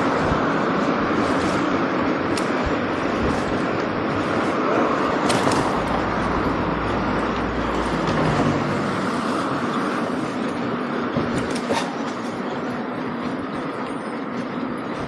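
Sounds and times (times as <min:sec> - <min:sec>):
vehicle running rumble and hiss: 0:00.0 - 0:13.5.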